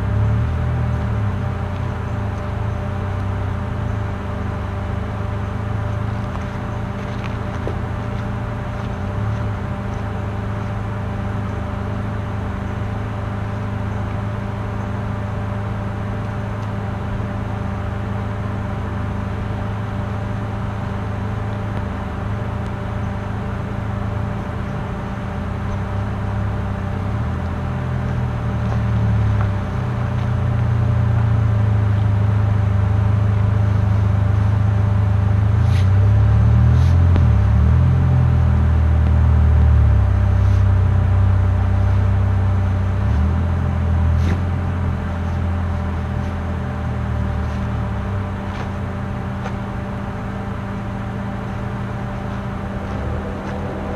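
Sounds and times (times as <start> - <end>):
low engine hum: 0.0 - 53.9.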